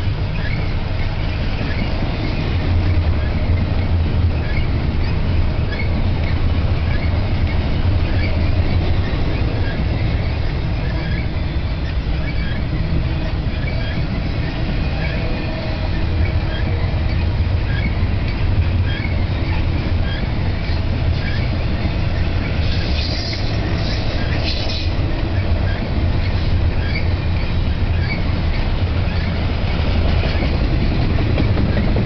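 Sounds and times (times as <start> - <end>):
train wheels rumbling on rails: 0.0 - 32.0
wheel squeal: 0.0 - 32.0.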